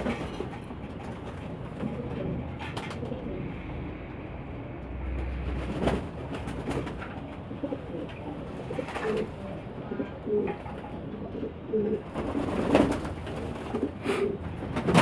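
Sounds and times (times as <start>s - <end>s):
pigeons cooing: 0.0s - 4.2s, 5.2s - 14.9s.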